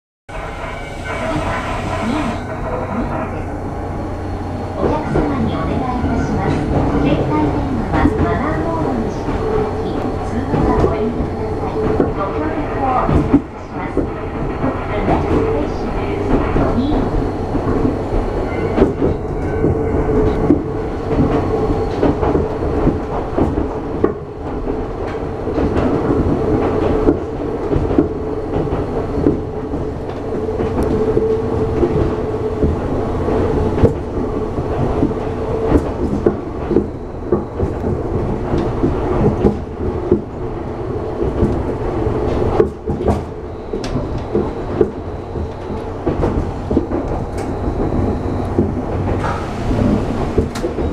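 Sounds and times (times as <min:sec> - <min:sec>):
train rumble from inside: 0:00.3 - 0:50.9.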